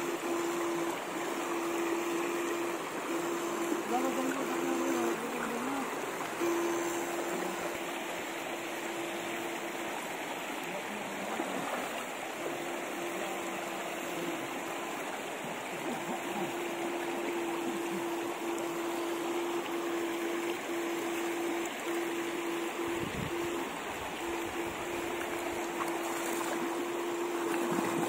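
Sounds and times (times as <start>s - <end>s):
river water running over rocks: 0.0s - 28.0s
steady electrical hum: 0.0s - 28.0s.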